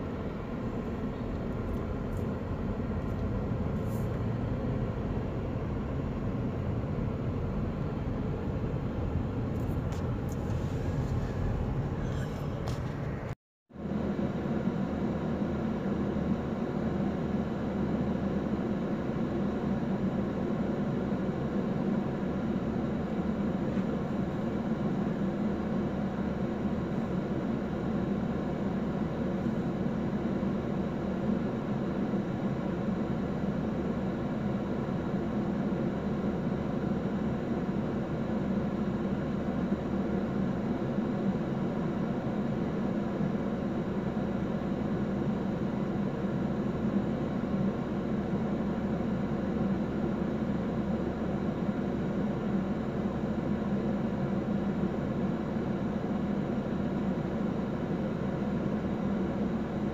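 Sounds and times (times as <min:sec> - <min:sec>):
car engine hum inside car: 0:00.0 - 0:59.9.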